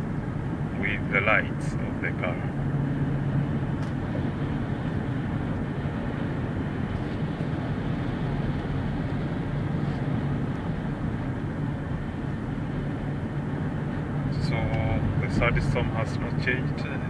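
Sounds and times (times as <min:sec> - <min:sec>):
car engine hum and road noise: 0:00.0 - 0:17.0.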